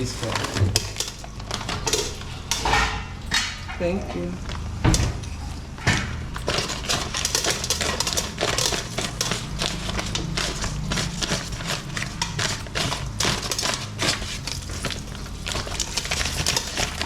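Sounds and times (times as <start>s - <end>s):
popcorn popping and sizzling: 0.0s - 3.7s, 4.3s - 17.0s
steady low hum: 0.0s - 17.0s.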